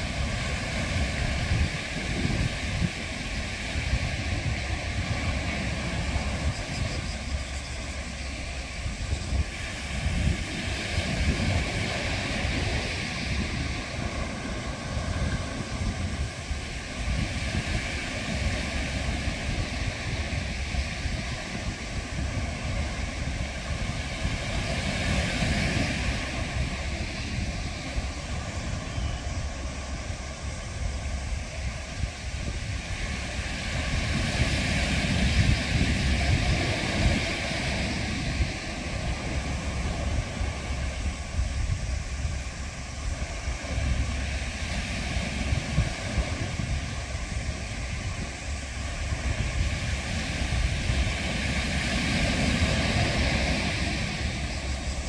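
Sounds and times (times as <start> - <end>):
sea waves washing around rocks: 0.0 - 55.0
wind buffeting microphone: 0.0 - 55.0.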